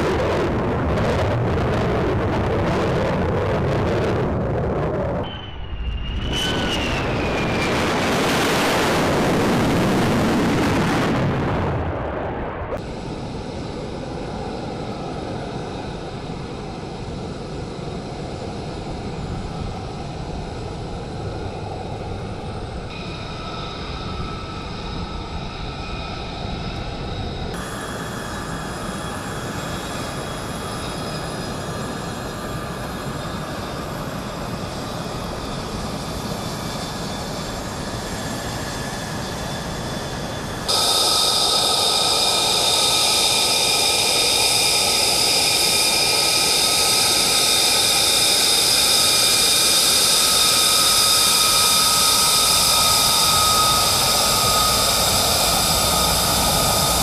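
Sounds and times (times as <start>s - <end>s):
high-pitched jet whine: 0.0s - 57.0s
jet engine exhaust rush: 0.0s - 57.0s.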